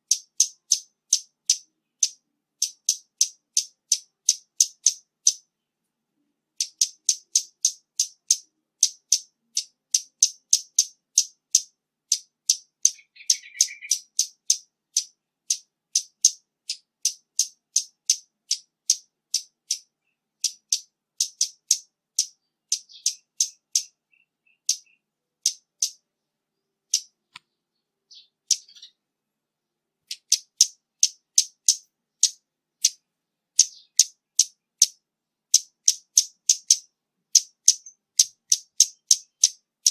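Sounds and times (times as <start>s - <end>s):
bird ticking calls: 0.0s - 5.6s, 6.6s - 29.0s, 30.0s - 39.9s.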